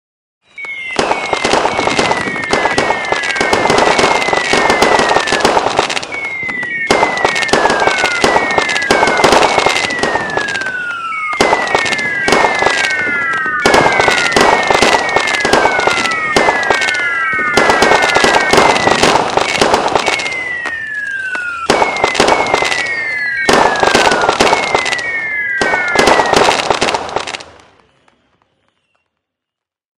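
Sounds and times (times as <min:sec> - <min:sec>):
fireworks whistles falling in pitch: 0:00.4 - 0:29.7
fireworks crackling and banging: 0:00.5 - 0:29.7.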